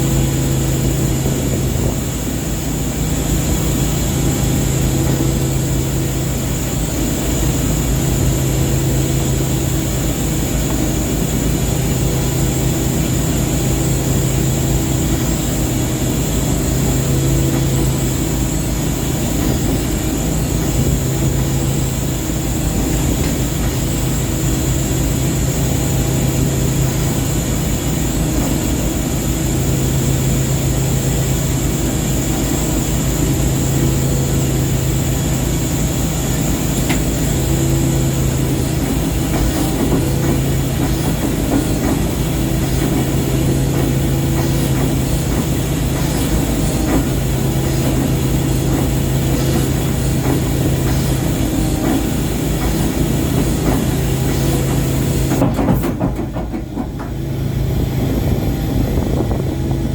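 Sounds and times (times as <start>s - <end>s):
ship engine humming and rumbling: 0.0s - 59.9s.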